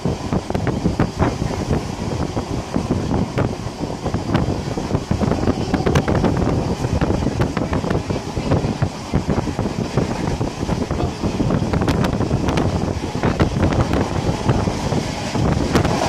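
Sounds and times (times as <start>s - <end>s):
train carriage rumble: 0.0s - 16.0s
wind noise on microphone: 0.0s - 16.0s.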